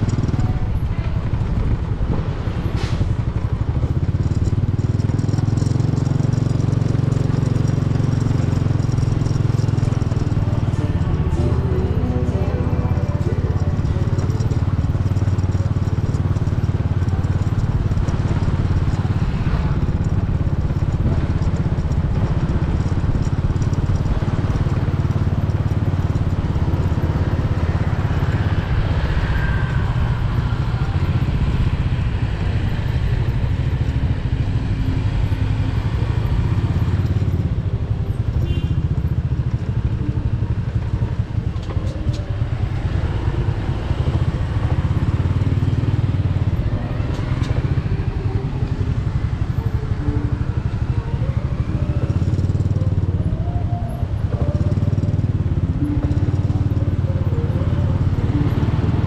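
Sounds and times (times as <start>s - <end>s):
motorcycle engine running: 0.0s - 59.0s
street traffic rumble: 0.0s - 59.0s.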